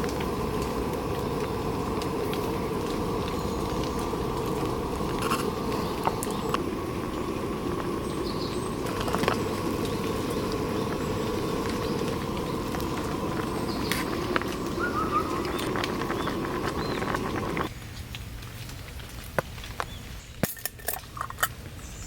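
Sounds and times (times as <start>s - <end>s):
steady rain falling: 0.0s - 20.3s.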